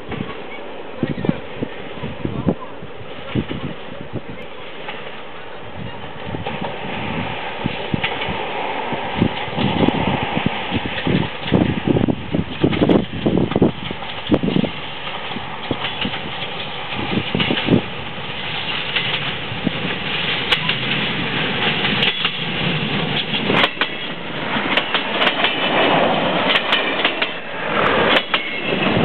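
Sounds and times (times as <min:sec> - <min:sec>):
train rumble: 0:00.0 - 0:29.0
wheels clicking over rail joints: 0:04.4 - 0:29.0.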